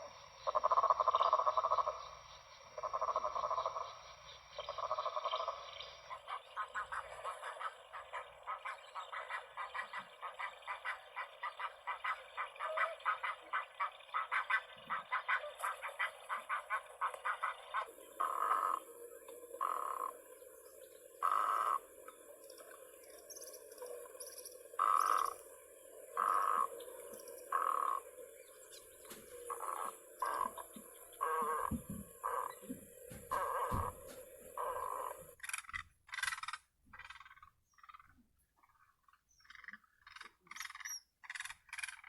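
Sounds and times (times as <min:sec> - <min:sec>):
frog croaks: 0:00.0 - 0:42.0
frogs calling in pulsing chorus: 0:00.0 - 0:42.0.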